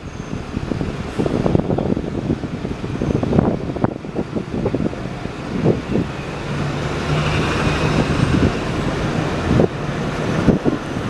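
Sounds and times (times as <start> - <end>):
bus engine humming: 0.0 - 11.0
wind buffeting microphone: 0.0 - 11.0.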